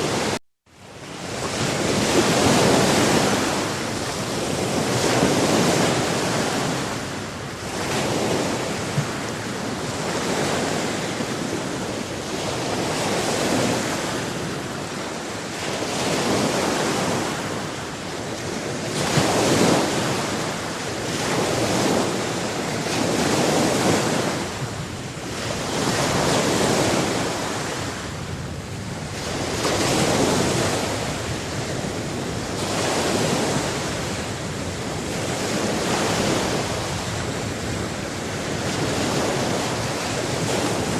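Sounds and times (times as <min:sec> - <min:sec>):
ocean waves washing onto shore: 0:00.0 - 0:40.9.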